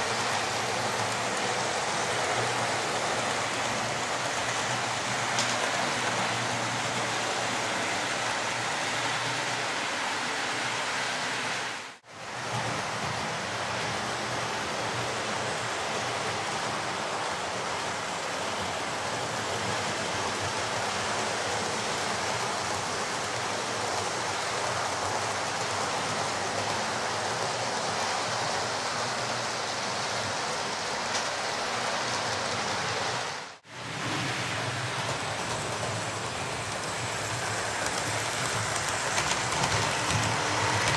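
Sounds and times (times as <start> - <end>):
model train whirring: 0.0 - 40.9.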